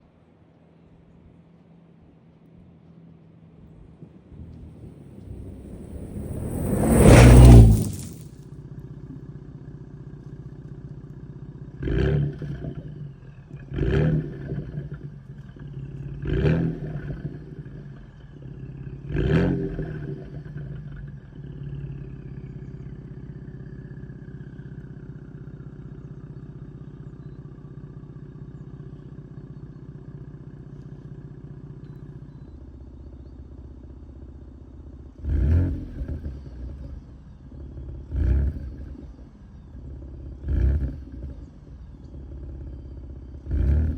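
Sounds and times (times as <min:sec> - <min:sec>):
car engine idling and revving: 0:01.5 - 0:43.9.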